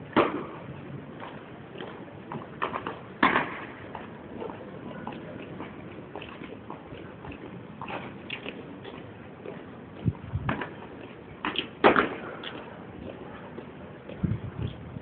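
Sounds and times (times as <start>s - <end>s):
open-air background noise: 0.0s - 15.0s.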